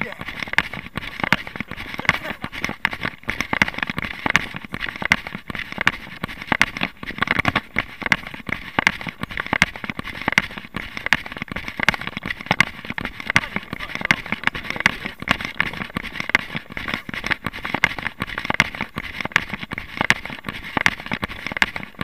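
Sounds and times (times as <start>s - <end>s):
camera jolting and rubbing: 0.0s - 22.0s
running footsteps: 0.0s - 22.0s.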